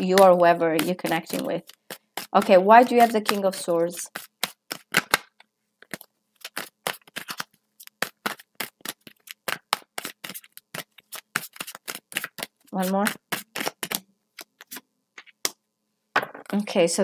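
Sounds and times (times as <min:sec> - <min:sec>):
cards being shuffled: 0:00.0 - 0:15.6.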